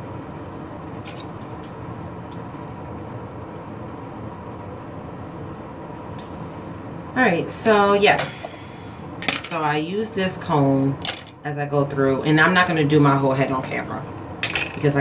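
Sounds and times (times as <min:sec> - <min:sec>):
room hum and hiss: 0:00.0 - 0:15.0.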